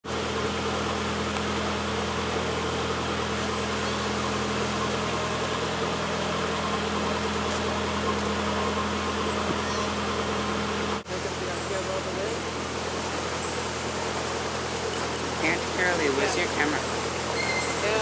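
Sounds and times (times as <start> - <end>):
boat diesel engine drone: 0.0 - 18.0.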